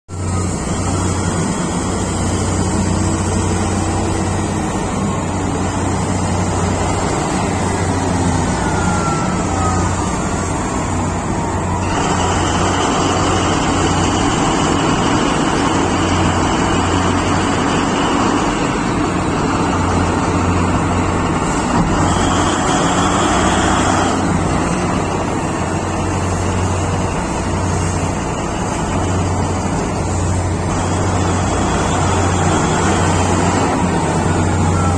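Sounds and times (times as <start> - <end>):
diesel truck engine droning: 0.1 - 34.9
high steady whine: 0.1 - 34.9.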